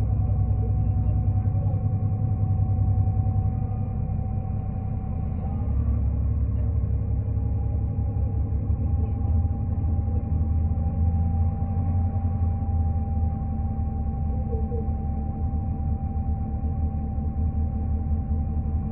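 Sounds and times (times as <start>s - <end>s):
diesel bus rumbling: 0.0s - 18.9s
faint steady whine: 0.0s - 18.9s.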